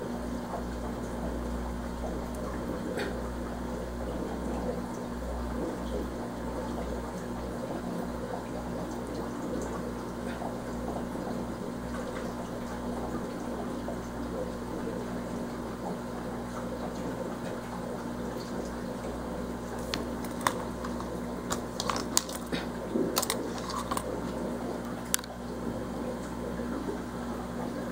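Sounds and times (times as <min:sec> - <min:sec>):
water bubbling in aquarium: 0:00.0 - 0:27.9.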